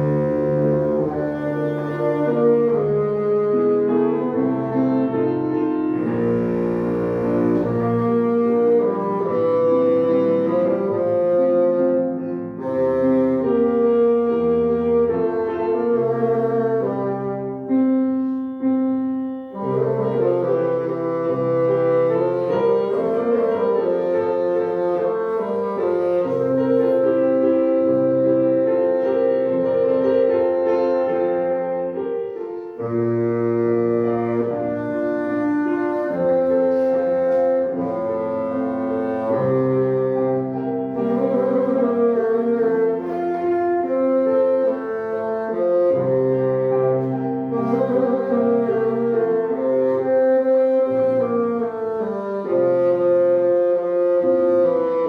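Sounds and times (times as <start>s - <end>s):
bassoon melody: 0.0s - 55.0s
piano accompaniment: 0.0s - 55.0s.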